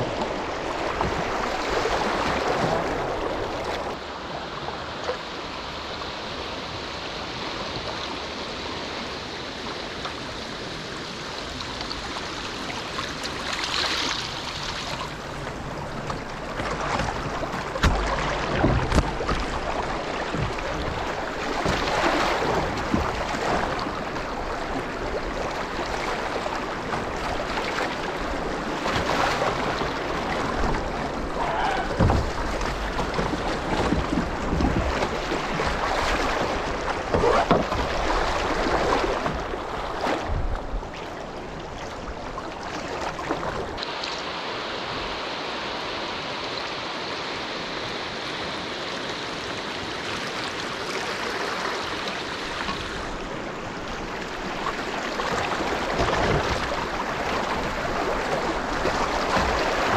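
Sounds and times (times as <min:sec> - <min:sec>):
river water rushing over riffles: 0:00.0 - 0:59.9.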